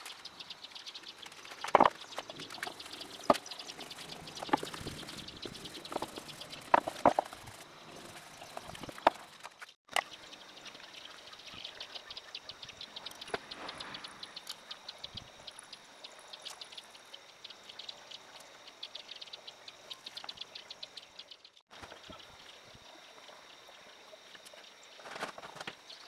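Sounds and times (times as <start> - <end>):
rapid high-pitched ticking: 0.0 - 21.6.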